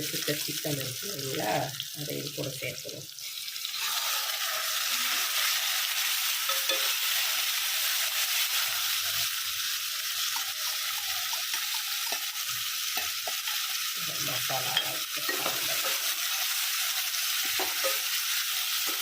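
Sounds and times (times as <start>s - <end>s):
chicken sizzling in a pan: 0.0s - 19.0s.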